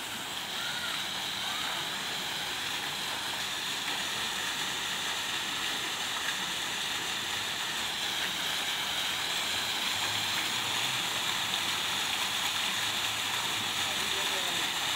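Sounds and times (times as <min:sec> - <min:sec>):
fountain water splashing: 0:00.0 - 0:14.9.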